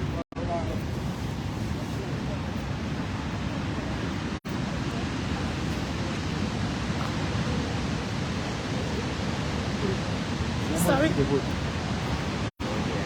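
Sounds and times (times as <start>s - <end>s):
steady rushing rumble: 0.0s - 13.0s.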